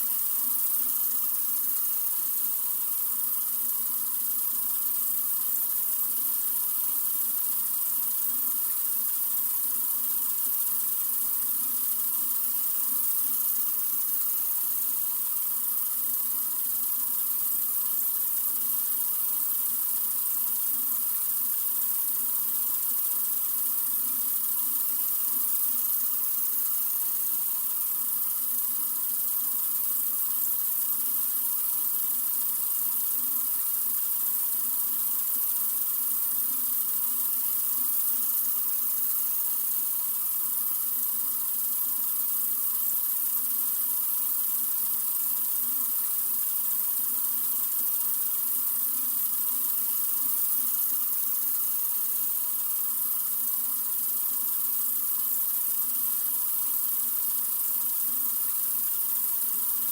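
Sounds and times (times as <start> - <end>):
faucet water running: 0.0 - 59.9.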